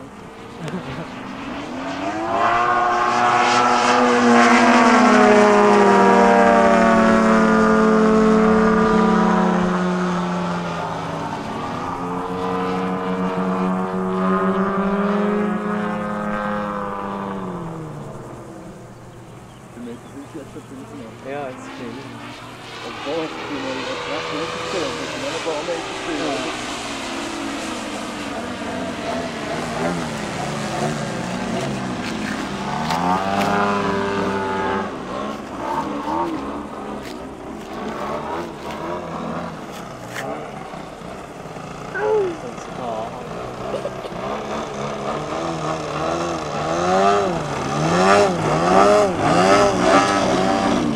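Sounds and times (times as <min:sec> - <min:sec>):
model airplane propeller engines: 0:00.0 - 0:50.9.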